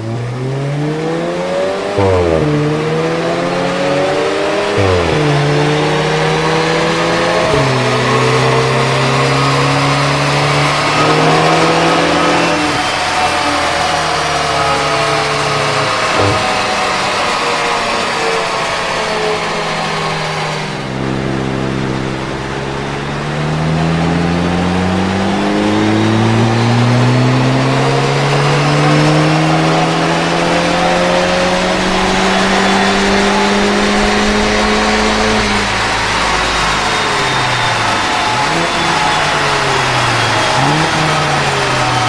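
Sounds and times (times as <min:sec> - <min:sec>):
car engine at full throttle: 0:00.0 - 0:42.0.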